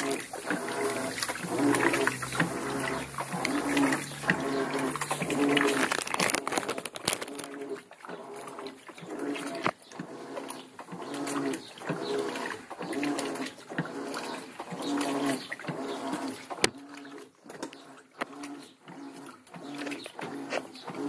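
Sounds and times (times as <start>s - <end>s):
washing machine motor whine: 0.0s - 21.0s.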